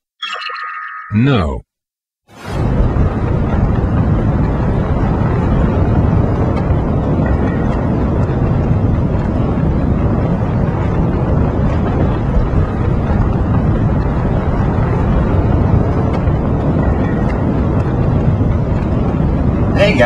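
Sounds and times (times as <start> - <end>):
loud low rumble: 2.4 - 20.0.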